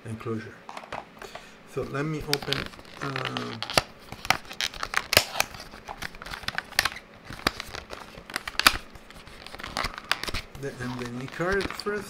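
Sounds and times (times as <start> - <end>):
plastic film peeling and crinkling: 1.8 - 12.0.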